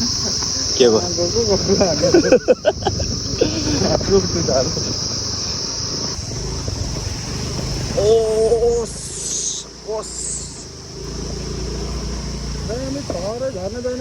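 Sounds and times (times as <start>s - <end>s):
indistinct voices talking: 0.0s - 14.0s
insects chirring: 0.0s - 14.0s.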